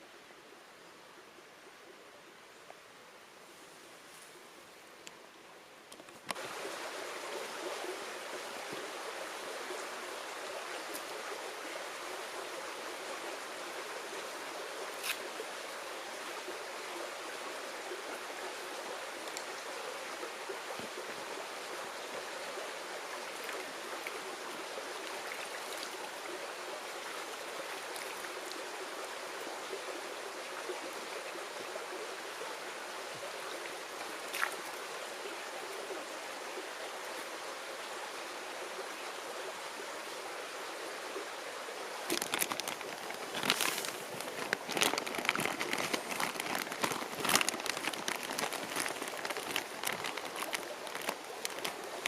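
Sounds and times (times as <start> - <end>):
stream babbling: 0.0 - 52.0.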